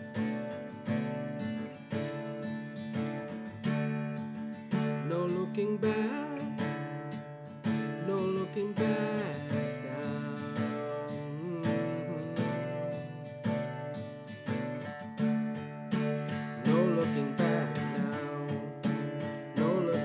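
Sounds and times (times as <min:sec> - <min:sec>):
acoustic guitar strumming: 0:00.0 - 0:20.0
sliding guitar melody notes: 0:00.0 - 0:20.0.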